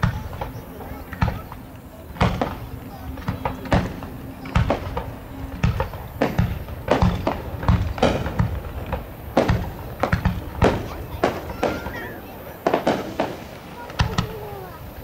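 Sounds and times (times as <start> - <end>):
fireworks bursting: 0.0 - 15.0
rumbling echo: 0.0 - 15.0.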